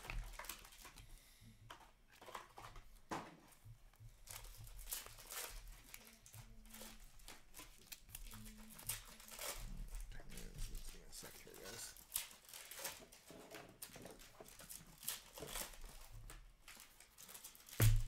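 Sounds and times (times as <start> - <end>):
cards and wrappers rustling: 0.0 - 18.0.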